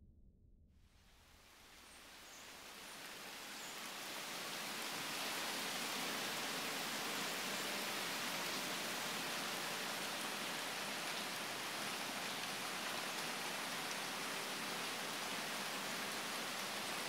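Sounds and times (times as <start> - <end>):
heavy rain hissing: 1.4 - 17.0.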